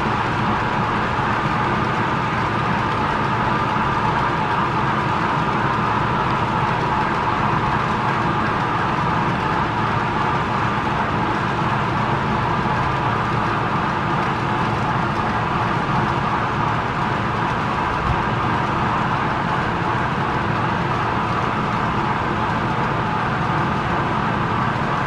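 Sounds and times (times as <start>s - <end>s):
model train cars rolling on track: 0.0s - 25.0s.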